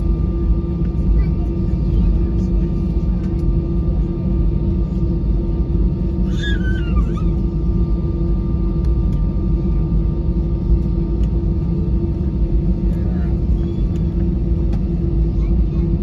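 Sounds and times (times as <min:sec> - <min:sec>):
cabin low rumble: 0:00.0 - 0:16.0.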